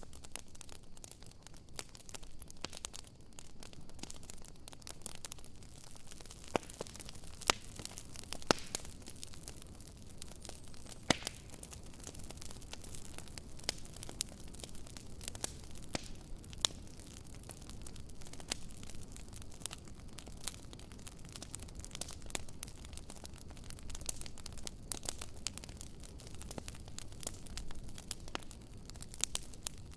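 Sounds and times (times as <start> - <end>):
fire burning with low rush: 0.0 - 29.9
fire popping and crackling: 0.0 - 29.9.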